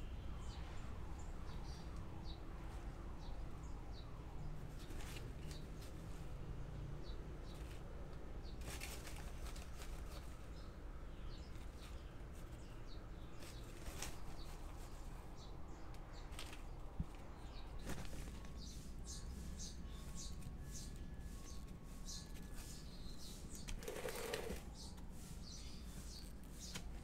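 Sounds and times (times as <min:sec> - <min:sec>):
small birds chirping: 0:00.0 - 0:27.0
rustles: 0:00.4 - 0:27.0.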